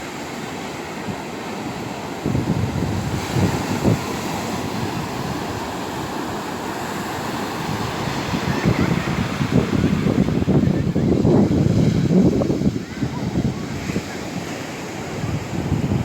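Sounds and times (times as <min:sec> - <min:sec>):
ocean surf washing on beach: 0:00.0 - 0:16.0
wind buffeting microphone: 0:01.0 - 0:16.0.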